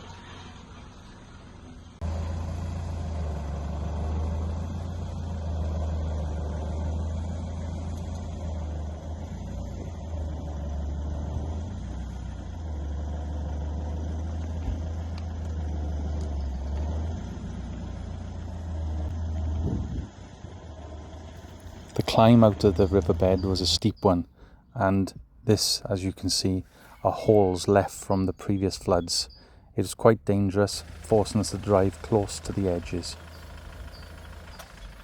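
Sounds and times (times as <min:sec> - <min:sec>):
truck engine droning: 0:00.0 - 0:35.0.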